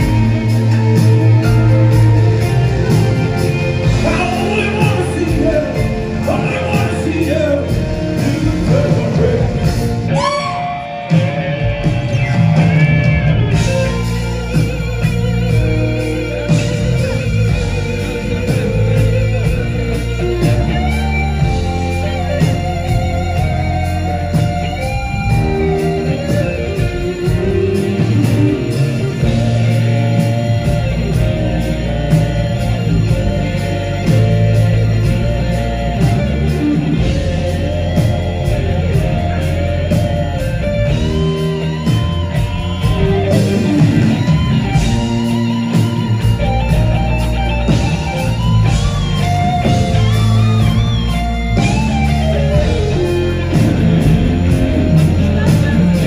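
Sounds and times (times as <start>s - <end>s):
electric guitar lead: 0.0s - 56.0s
live rock band playing: 0.0s - 56.0s.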